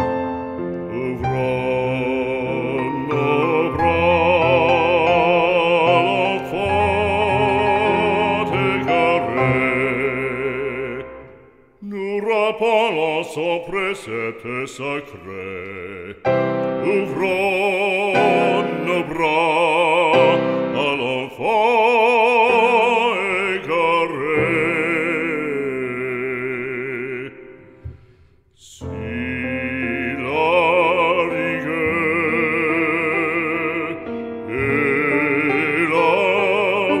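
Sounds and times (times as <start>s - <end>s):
musical accompaniment: 0.0s - 11.8s, 16.2s - 37.0s
opera singer with vibrato: 0.8s - 28.0s, 28.6s - 37.0s.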